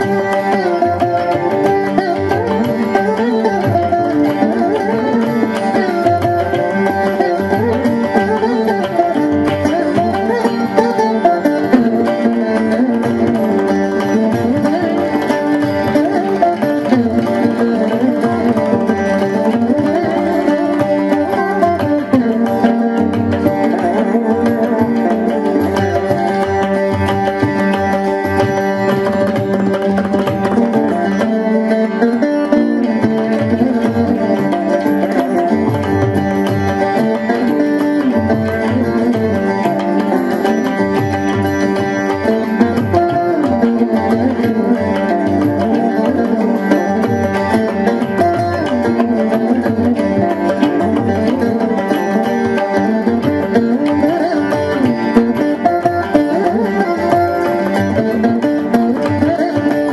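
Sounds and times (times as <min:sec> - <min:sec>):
hand drum accompaniment: 0:00.0 - 0:59.9
plucked veena melody: 0:00.0 - 0:59.9.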